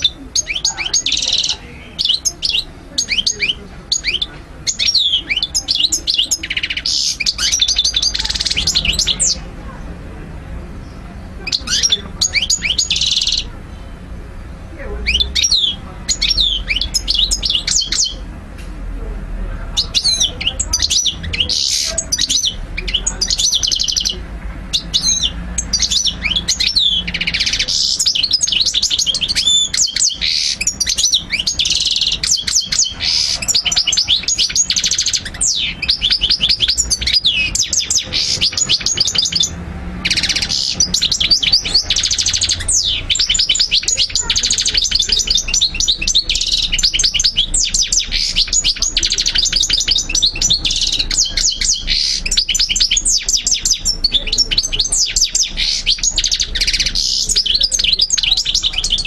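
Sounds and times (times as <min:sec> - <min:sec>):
goldfinch twittering song: 0:00.0 - 0:09.6, 0:10.8 - 0:14.0, 0:14.8 - 0:18.3, 0:19.8 - 0:59.0.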